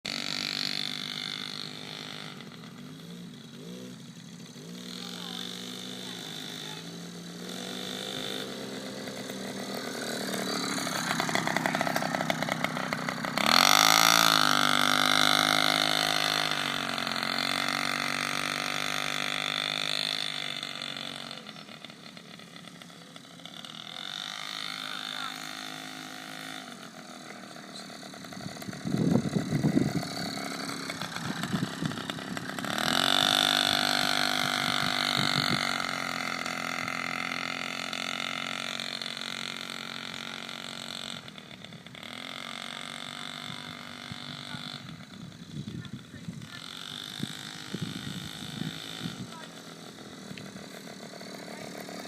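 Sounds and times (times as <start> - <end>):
small motorbike engine: 0.0 - 52.0.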